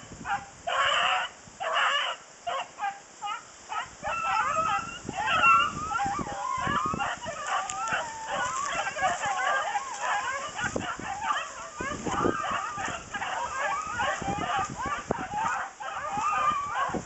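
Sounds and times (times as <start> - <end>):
dogs barking: 0.0 - 17.0
dogs baying: 0.2 - 17.0.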